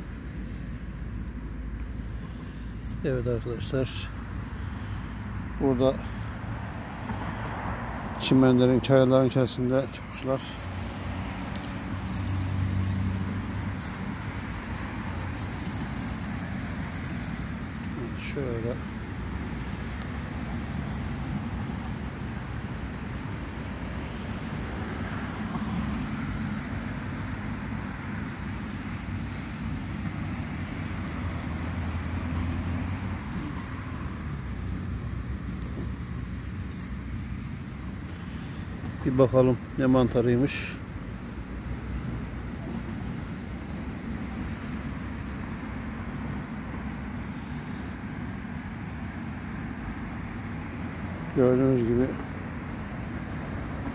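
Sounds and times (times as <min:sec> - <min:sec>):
low outdoor rumble: 0:00.0 - 0:53.9.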